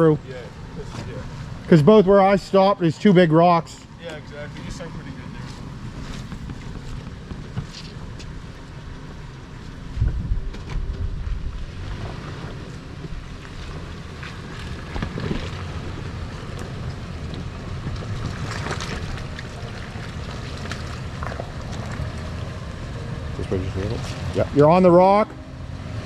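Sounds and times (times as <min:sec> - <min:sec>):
off-road vehicle engine at low revs: 0:00.0 - 0:26.0.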